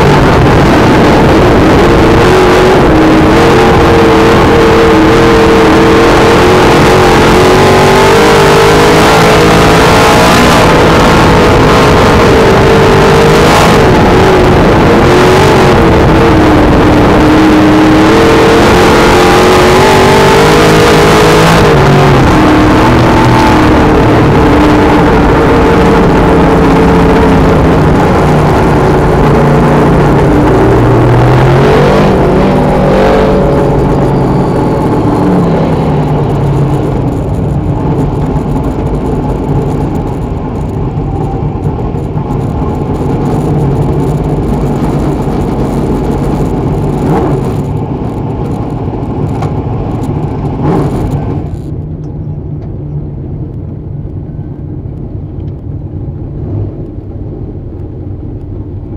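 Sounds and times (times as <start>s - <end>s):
high-pitched noise: 0.0s - 48.7s
race car engine revving: 0.0s - 52.7s.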